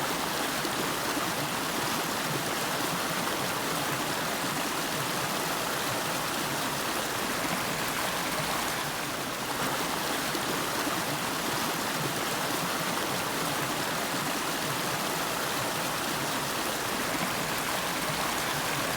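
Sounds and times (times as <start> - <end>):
river flowing: 0.0 - 18.9.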